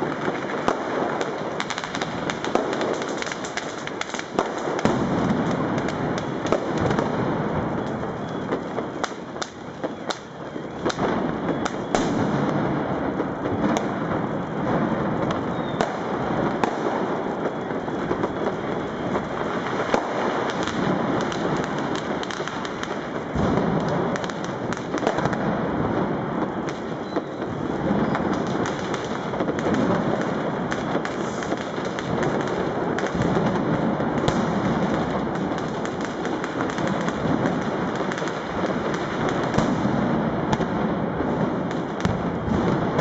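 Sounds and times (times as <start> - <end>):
close firecracker cracks: 0.0 - 43.0
distant firecracker bangs: 0.0 - 43.0.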